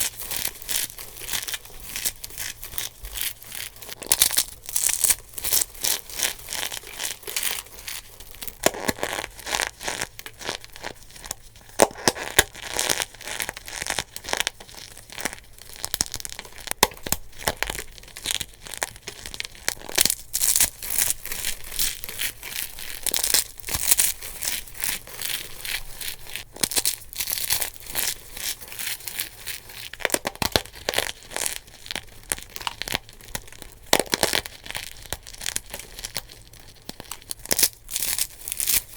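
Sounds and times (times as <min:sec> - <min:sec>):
dried soap crushed by hand: 0:00.0 - 0:38.9.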